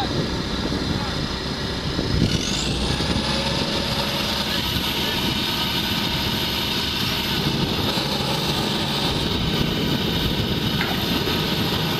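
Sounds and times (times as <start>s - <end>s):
diesel truck engine running: 0.0s - 11.9s.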